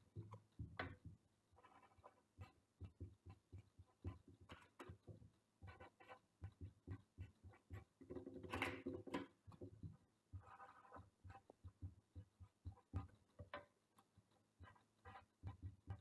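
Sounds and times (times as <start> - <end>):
marker tapping and scratching: 0.0 - 16.0.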